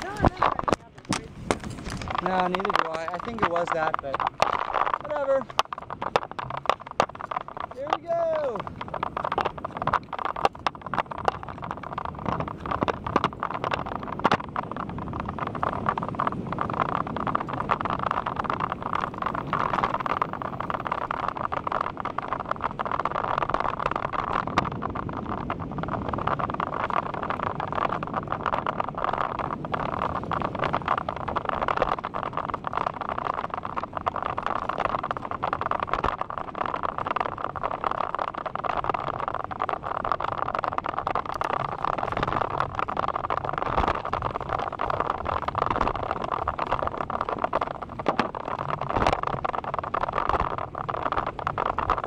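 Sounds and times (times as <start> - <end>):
bike knocks and rattles: 0.0 - 52.0
tyres rolling on asphalt: 0.0 - 52.0
wind rushing over microphone: 0.0 - 52.0.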